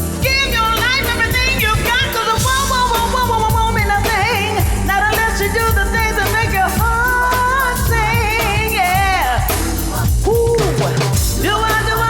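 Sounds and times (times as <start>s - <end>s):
upbeat band music: 0.0s - 12.0s.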